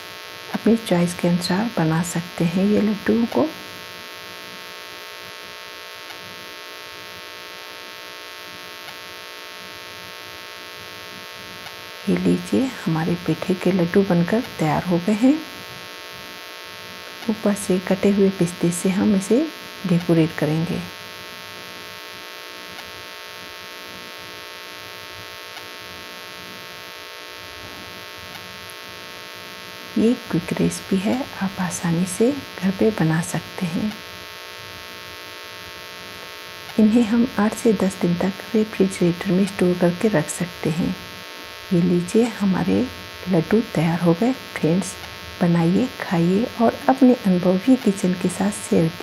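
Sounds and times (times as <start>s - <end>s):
buzzy electrical hum: 0.0s - 49.0s.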